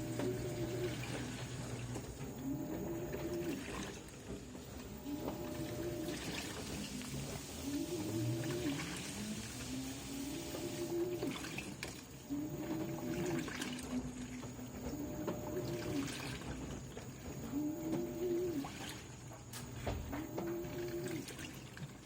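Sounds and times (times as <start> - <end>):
washing machine motor whining: 0.0 - 22.0
water sloshing: 0.0 - 22.0.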